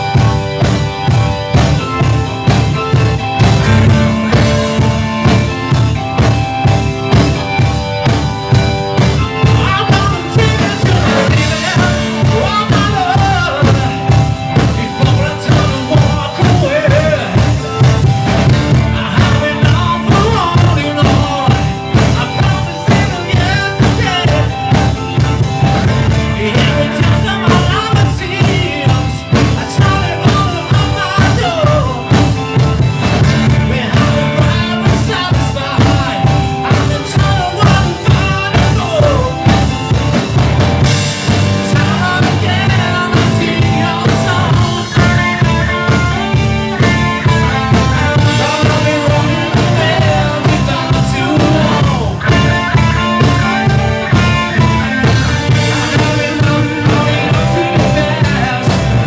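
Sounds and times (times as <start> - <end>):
live rock band playing: 0.0 - 59.0
steady drum beat: 0.0 - 59.0
man singing: 9.0 - 59.0.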